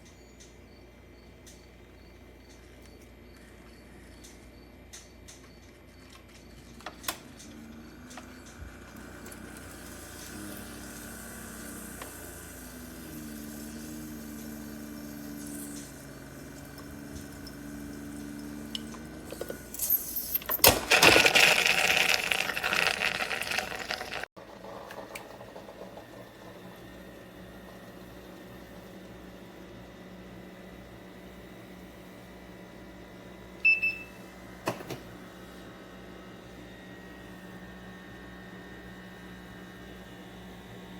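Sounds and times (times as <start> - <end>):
coffee maker pump hum: 5.9 - 40.9.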